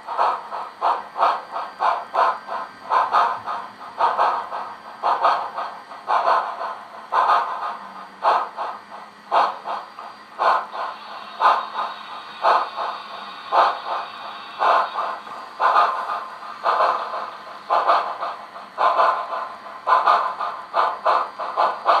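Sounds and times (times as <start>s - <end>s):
model train steam chuffs: 0.0s - 22.0s.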